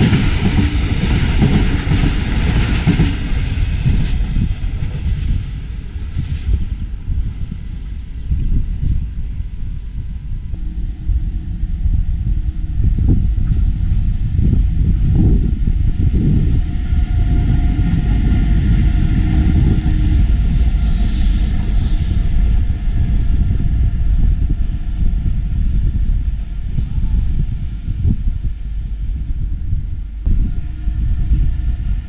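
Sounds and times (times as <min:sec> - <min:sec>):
diesel train rumbling past: 0:00.0 - 0:32.0.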